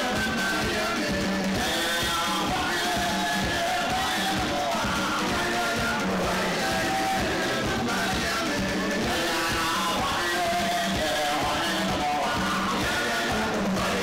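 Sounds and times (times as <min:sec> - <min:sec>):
drum kit: 0:00.0 - 0:14.0
hand percussion: 0:00.0 - 0:14.0
person singing: 0:00.0 - 0:14.0.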